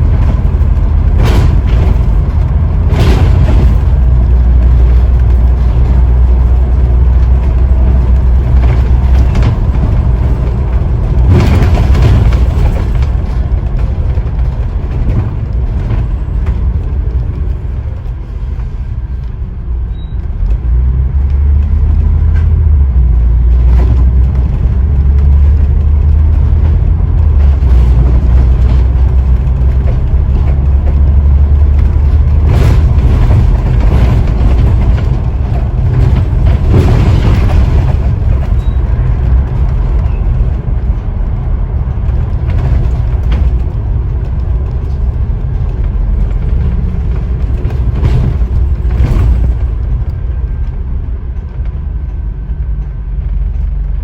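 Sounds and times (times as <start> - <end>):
rattling: 0.0 - 19.0, 21.6 - 52.1
bus engine droning: 0.0 - 54.0.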